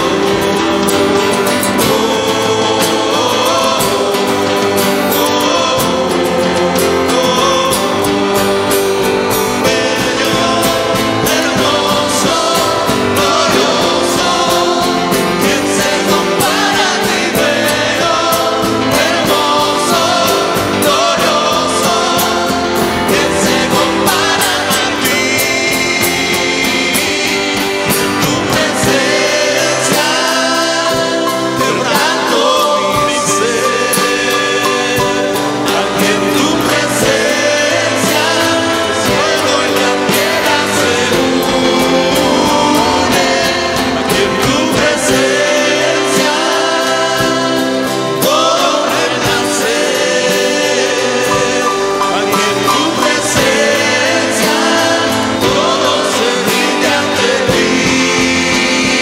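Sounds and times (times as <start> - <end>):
worship song singing: 0.0 - 59.0.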